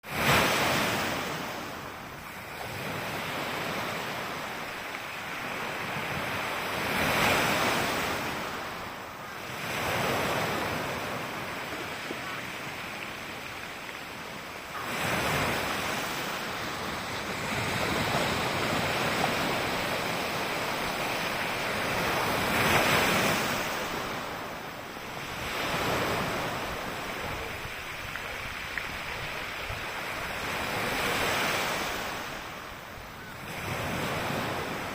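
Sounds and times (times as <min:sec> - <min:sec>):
sea waves washing ashore: 0:00.0 - 0:34.9.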